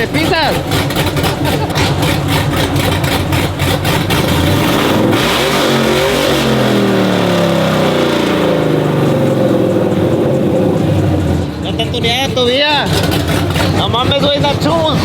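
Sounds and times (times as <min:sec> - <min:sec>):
pickup engine roaring at full throttle: 0:00.0 - 0:15.0.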